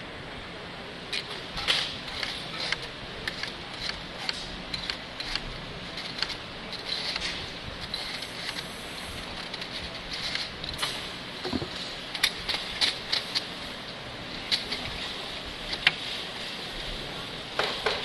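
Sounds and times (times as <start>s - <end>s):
workshop machinery noise: 0.0s - 18.0s.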